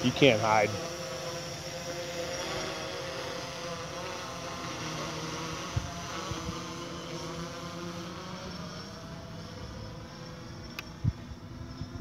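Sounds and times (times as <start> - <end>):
drone propellers humming: 0.0 - 12.0.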